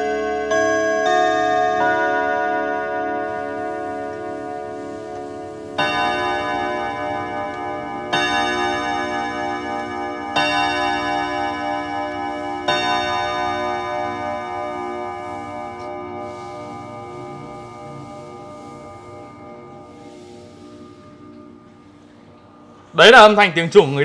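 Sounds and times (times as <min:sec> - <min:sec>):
clock gongs striking: 0:00.0 - 0:24.0.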